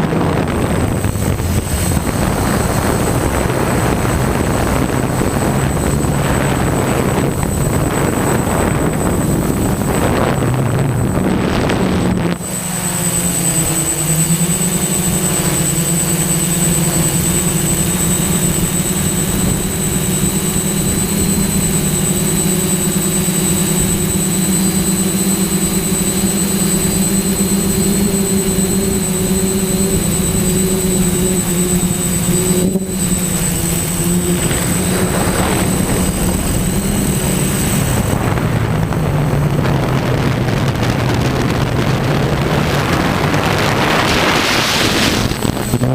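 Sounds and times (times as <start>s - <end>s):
drone motors and propellers: 0.0s - 45.9s
thin high whine: 0.0s - 45.9s
wind buffeting microphone: 0.0s - 45.9s.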